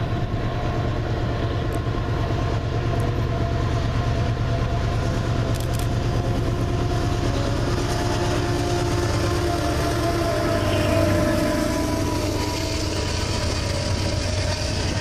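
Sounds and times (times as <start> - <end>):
freight cars rolling by: 0.0 - 15.0
locomotive engine drone: 0.0 - 15.0.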